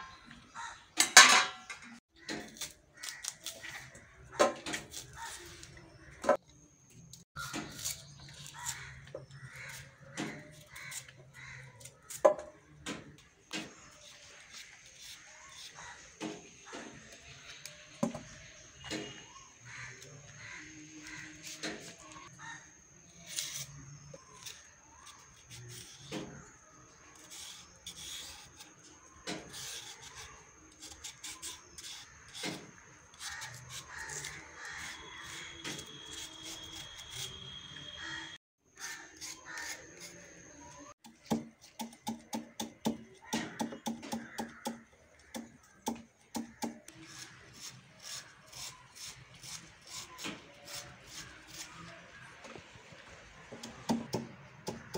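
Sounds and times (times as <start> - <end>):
knife scraping vegetable stalk: 2.3 - 6.4, 7.4 - 12.4, 13.6 - 17.8, 18.5 - 52.3.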